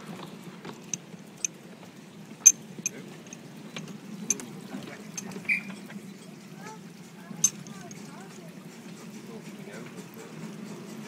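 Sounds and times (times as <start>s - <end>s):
train low rumble: 0.0s - 11.0s
wheels clicking on track: 0.0s - 11.0s.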